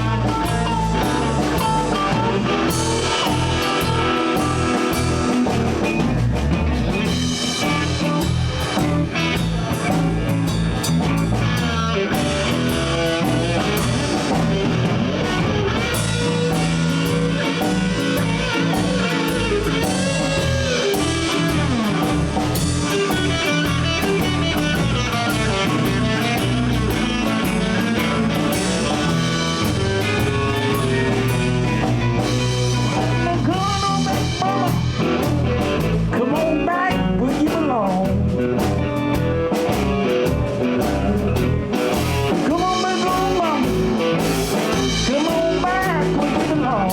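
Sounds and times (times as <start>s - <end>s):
bass: 0.0s - 46.9s
drum kit beat: 0.0s - 46.9s
guitars: 0.0s - 46.9s
live blues band playing: 0.0s - 46.9s.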